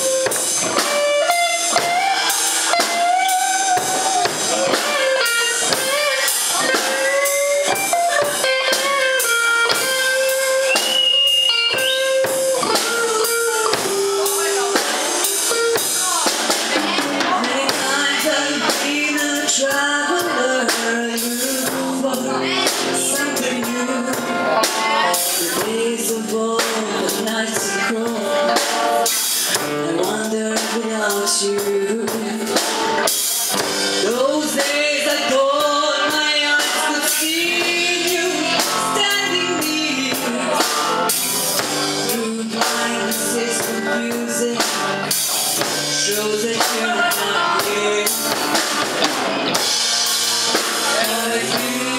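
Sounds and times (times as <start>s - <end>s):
woman singing into microphone: 0.0s - 49.8s, 50.5s - 51.9s
drum kit steady beat: 0.0s - 51.9s.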